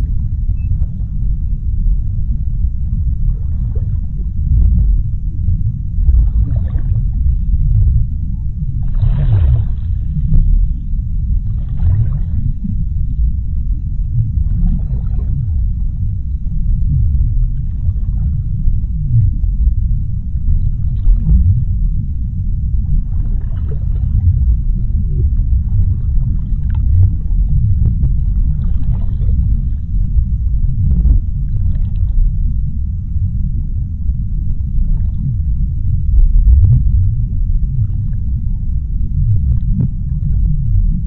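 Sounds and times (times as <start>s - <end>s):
deep underwater rumble: 0.0s - 41.0s
faint water swishes: 0.0s - 41.0s.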